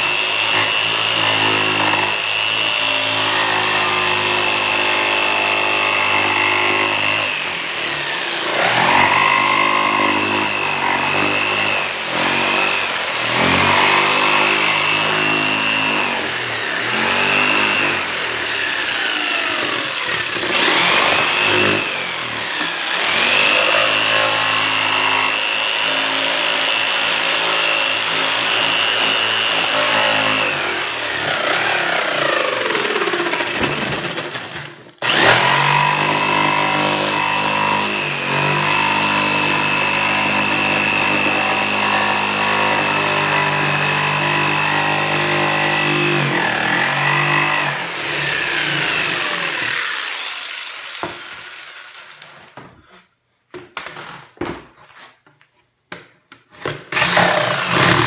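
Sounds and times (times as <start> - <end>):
jigsaw cutting wood: 0.0 - 53.0, 56.6 - 58.0.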